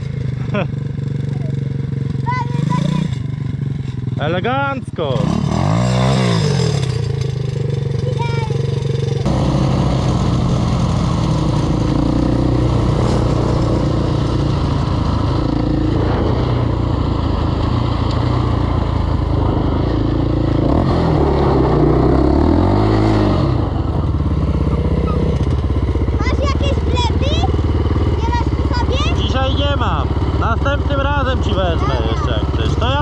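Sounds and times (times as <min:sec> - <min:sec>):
quad engine running and revving: 0:00.0 - 0:33.0.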